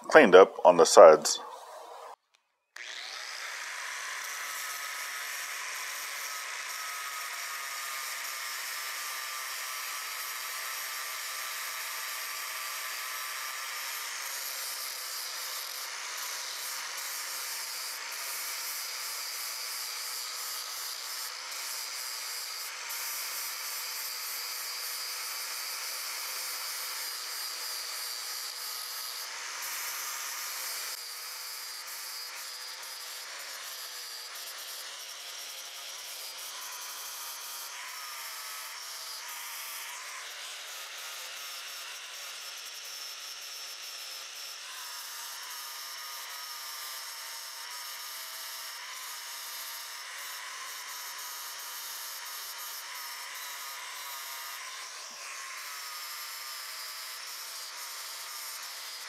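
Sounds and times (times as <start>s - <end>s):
angle grinder sanding steel: 2.8s - 59.0s.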